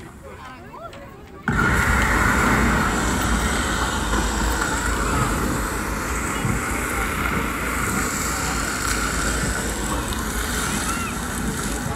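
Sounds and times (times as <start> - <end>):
faint voices: 0.0 - 11.9
hiss: 1.5 - 11.9
low rumble: 1.5 - 11.9.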